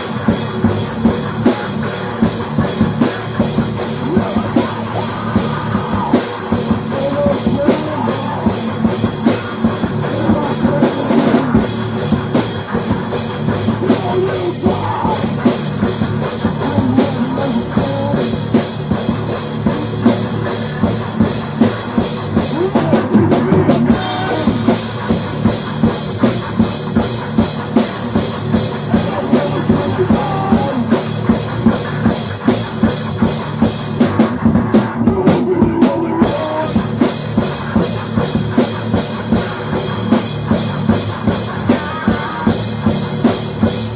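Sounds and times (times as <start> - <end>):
bass drum beat: 0.0 - 43.9
loud rock music: 0.0 - 43.9.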